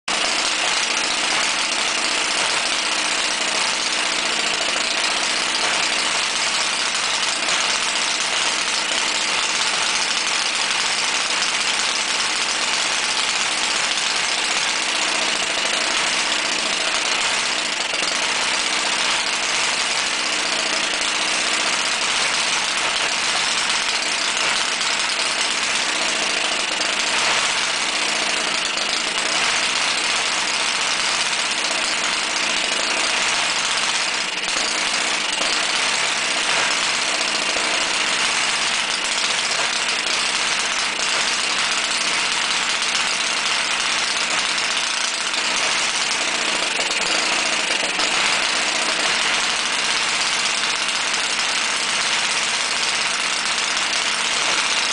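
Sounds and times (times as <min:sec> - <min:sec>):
model engine running: 0:00.1 - 0:54.9.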